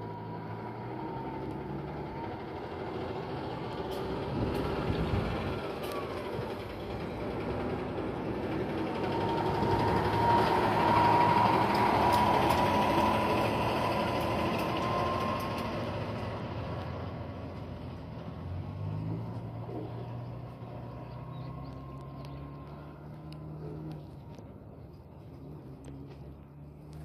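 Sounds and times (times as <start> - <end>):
low engine hum: 0.0 - 27.0
passing vehicle: 0.0 - 27.0.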